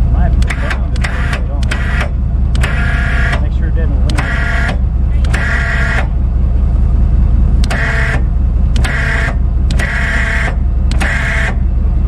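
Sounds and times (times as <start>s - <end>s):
motor whine: 0.0s - 12.0s
vehicle engine running: 0.0s - 12.0s.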